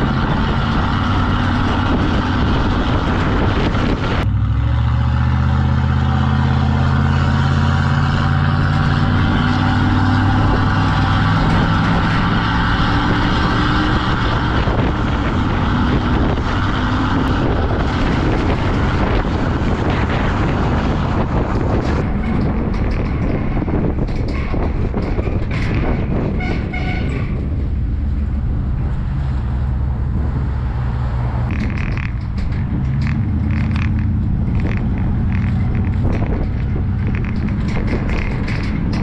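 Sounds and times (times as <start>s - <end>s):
road and wind noise: 0.0s - 39.0s
truck engine hum: 0.0s - 39.0s.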